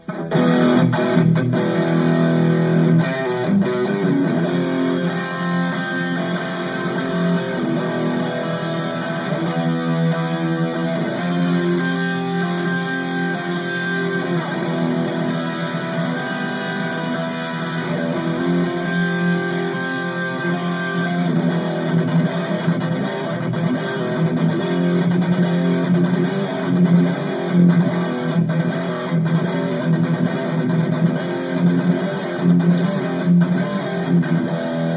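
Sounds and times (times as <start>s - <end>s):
electric guitar chords and notes: 0.0s - 34.9s.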